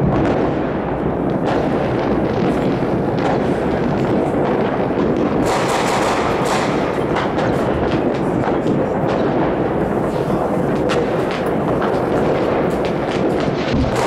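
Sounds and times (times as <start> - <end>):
distant fireworks bangs and crackles: 0.0 - 14.0.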